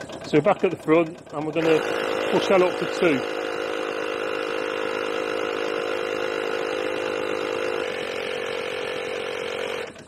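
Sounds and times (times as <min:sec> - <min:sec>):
tyre compressor running: 0:00.0 - 0:10.0.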